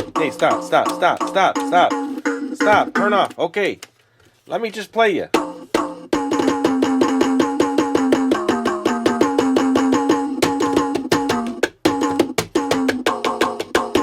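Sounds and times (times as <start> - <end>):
electronic toy bongo hits: 0.0 - 3.4, 5.3 - 14.0.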